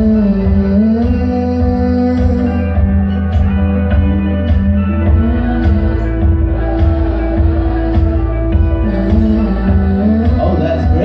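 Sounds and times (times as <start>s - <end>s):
electric guitar: 0.0s - 11.0s
keyboard: 0.0s - 11.0s.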